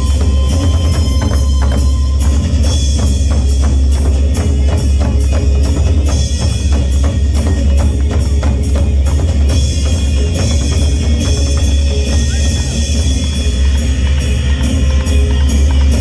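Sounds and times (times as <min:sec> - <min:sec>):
folk drum ensemble: 0:00.0 - 0:16.0
heavy low drum beat: 0:00.0 - 0:16.0.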